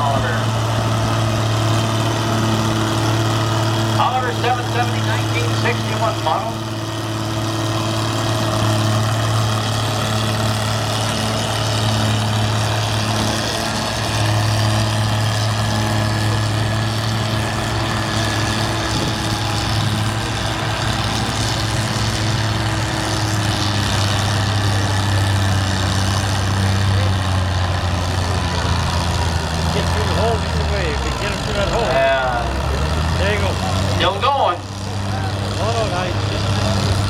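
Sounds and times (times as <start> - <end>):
tractor engine running under load: 0.0 - 37.0.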